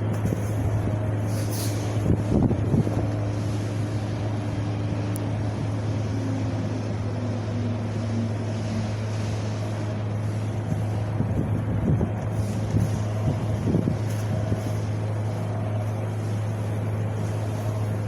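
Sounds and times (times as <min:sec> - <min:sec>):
wind blowing with low rumble: 0:00.0 - 0:18.0.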